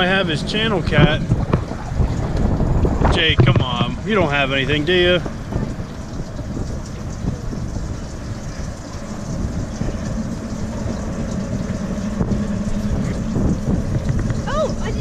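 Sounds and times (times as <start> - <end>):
engine hum: 0.0 - 15.0
wind rumble on microphone: 0.0 - 15.0.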